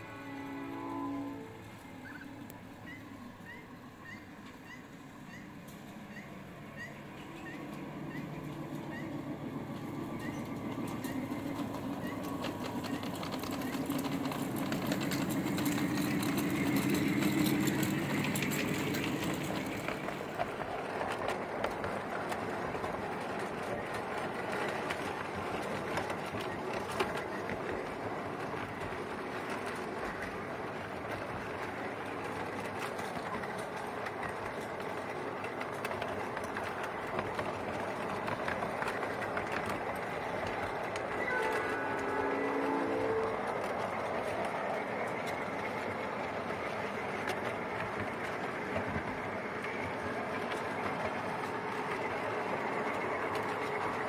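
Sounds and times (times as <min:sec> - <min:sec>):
locomotive hum: 0:00.0 - 0:54.0
small rail clicks: 0:00.0 - 0:54.0
wheels rumbling on rails: 0:00.0 - 0:54.0.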